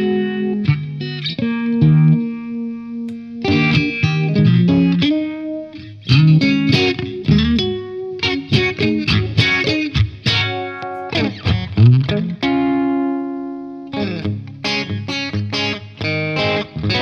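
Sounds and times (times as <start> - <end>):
overdriven electric guitar: 0.0 - 17.0.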